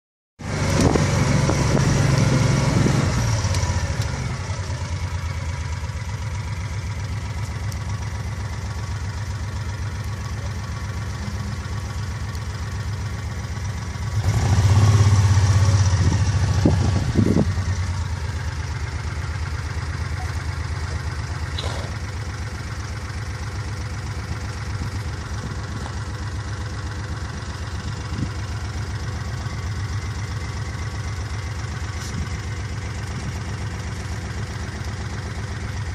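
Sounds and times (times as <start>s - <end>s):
vehicle engine idling: 0.4s - 35.9s.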